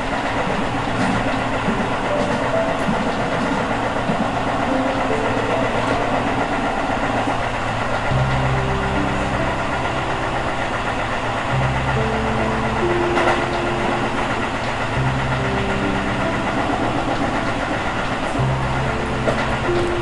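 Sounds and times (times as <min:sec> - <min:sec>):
electric motor hum: 0:00.0 - 0:20.0
train wheels rumbling on track: 0:00.0 - 0:20.0.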